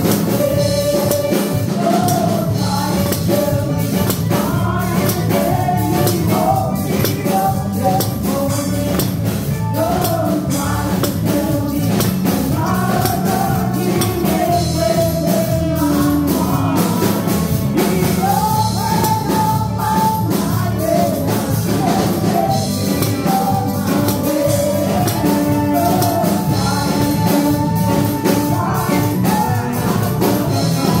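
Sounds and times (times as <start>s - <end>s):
person singing gospel melody: 0.0s - 31.0s
rhythmic percussion: 0.0s - 31.0s.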